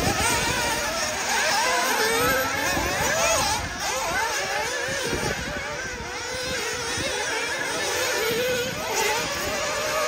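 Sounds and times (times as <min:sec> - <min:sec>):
rc buggy nitro engines buzzing: 0:00.0 - 0:10.0.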